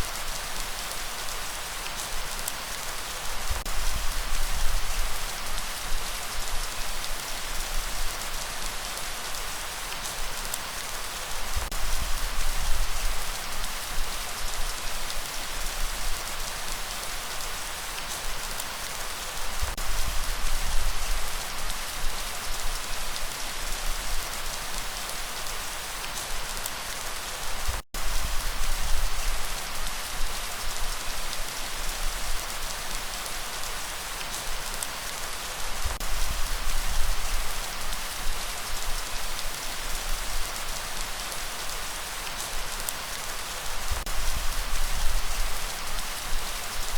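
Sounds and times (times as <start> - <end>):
light rain hissing: 0.0 - 46.9.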